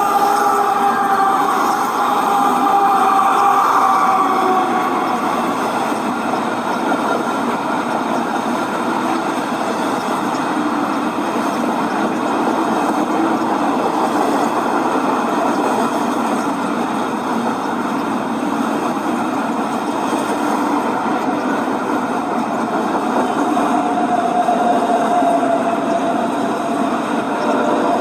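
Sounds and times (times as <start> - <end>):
model train wheels rumbling on rails: 0.0 - 28.0.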